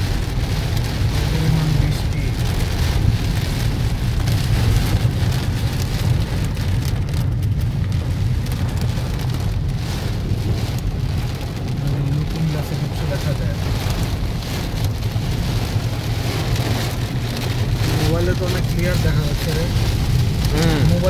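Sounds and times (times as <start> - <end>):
car rumbling on wet road: 0.0 - 21.0
heavy rain on car roof: 0.0 - 21.0.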